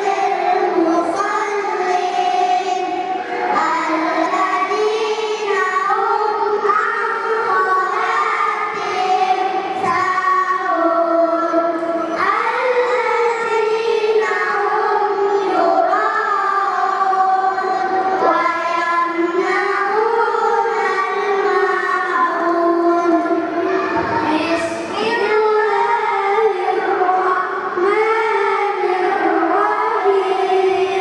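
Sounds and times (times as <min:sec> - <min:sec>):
children chanting in unison: 0:00.0 - 0:31.0.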